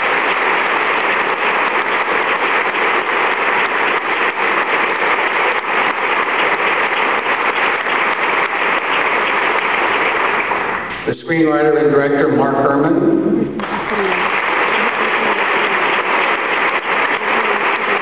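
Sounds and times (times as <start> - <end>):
large audience applauding: 0.0 - 12.3, 13.5 - 18.0.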